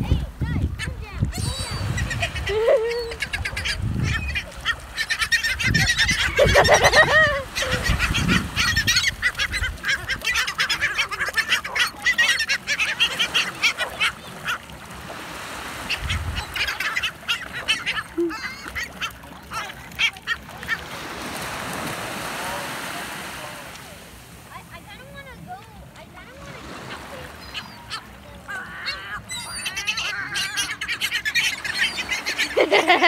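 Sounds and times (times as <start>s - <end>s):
surf washing: 0.0s - 33.0s
gulls squawking: 0.8s - 25.6s, 26.2s - 33.0s.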